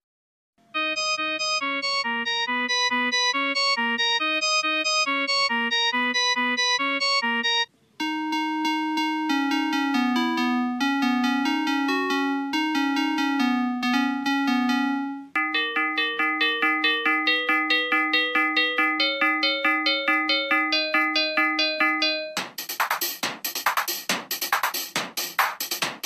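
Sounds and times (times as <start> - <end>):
synthesized keyboard melody: 0.8 - 22.4.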